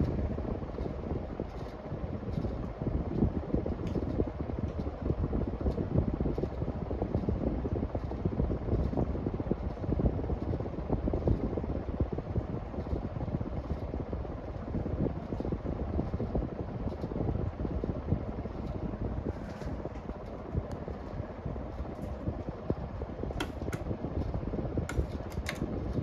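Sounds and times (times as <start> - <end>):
ceiling fan wind buffeting microphone: 0.0 - 26.0.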